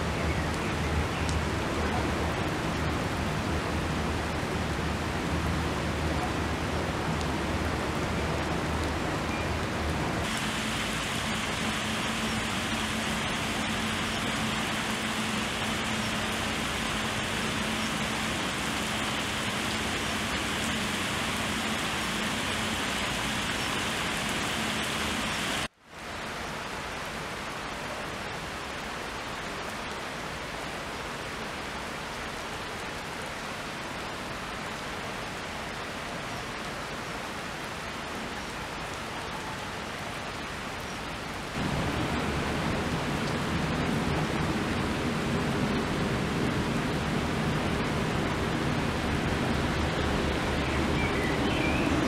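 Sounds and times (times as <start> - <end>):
rain on wet asphalt: 0.0 - 52.0.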